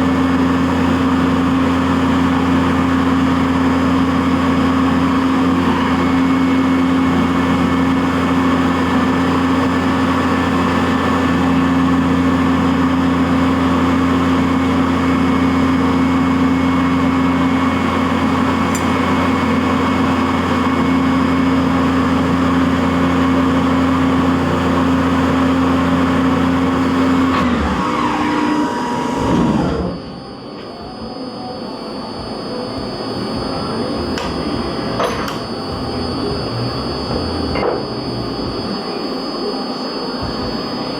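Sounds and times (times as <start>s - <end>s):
milling machine spindle humming: 0.0s - 40.9s.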